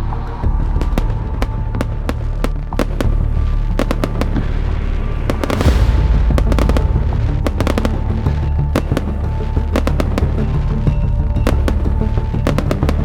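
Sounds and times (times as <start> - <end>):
music with deep bass: 0.0 - 13.0
fireworks bangs and pops: 0.8 - 13.0.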